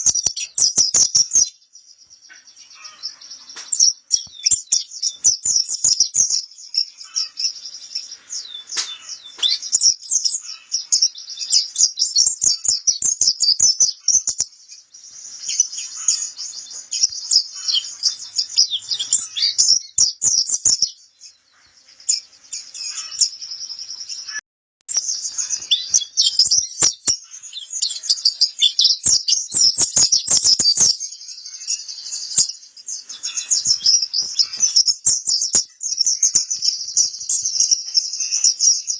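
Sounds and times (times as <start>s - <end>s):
bird twittering chirps: 0.0s - 38.9s.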